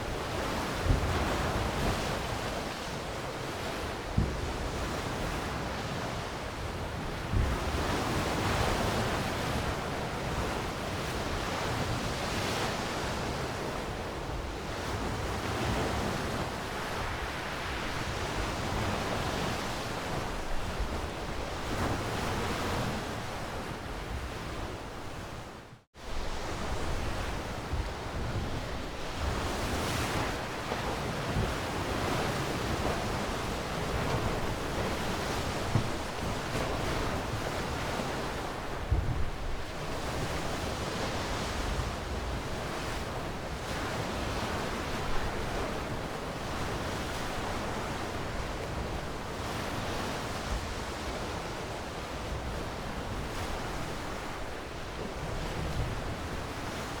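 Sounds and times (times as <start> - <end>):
ocean waves washing on shore: 0.0 - 57.0.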